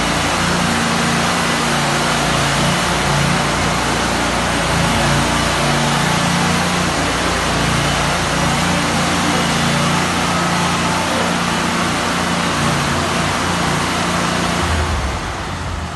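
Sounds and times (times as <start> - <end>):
floor scraper engine running: 0.0 - 15.9.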